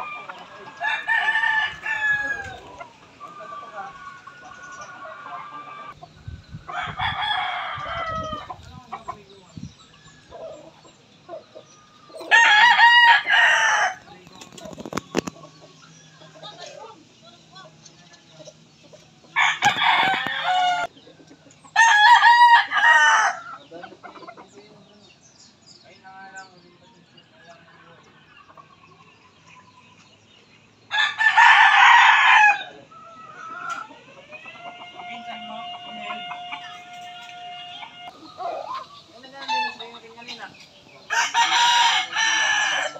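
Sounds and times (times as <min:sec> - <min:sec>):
roosters crowing: 0:00.0 - 0:25.1, 0:30.8 - 0:42.9
chickens clucking: 0:00.0 - 0:25.2, 0:25.9 - 0:31.8, 0:32.4 - 0:42.9.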